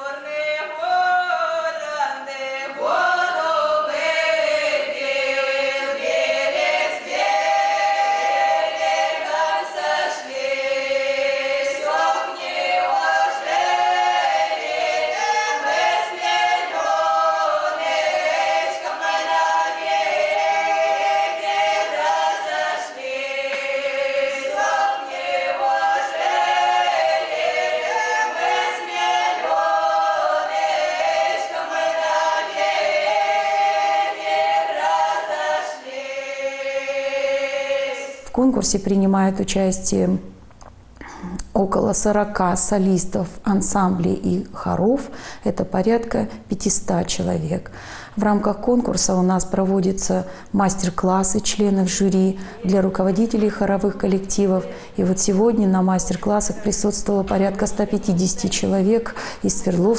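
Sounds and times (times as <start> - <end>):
women singing in harmony: 0.0 - 40.2, 48.2 - 59.9.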